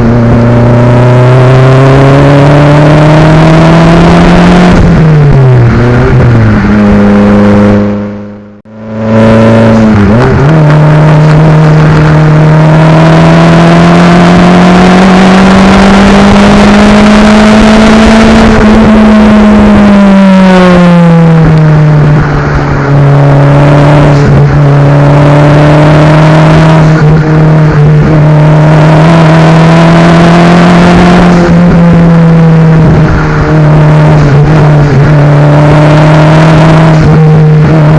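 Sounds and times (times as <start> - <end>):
car engine and exhaust pulling uphill: 0.0 - 37.9.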